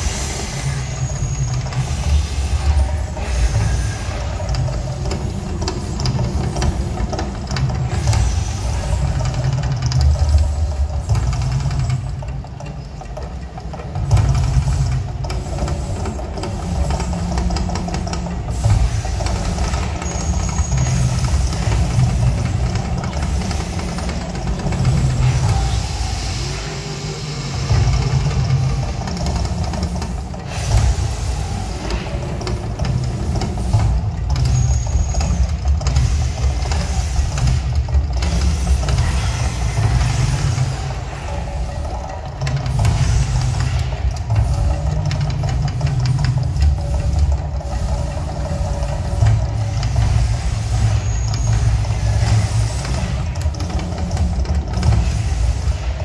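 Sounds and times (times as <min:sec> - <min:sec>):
gas flame jets rushing: 0:00.0 - 0:56.0.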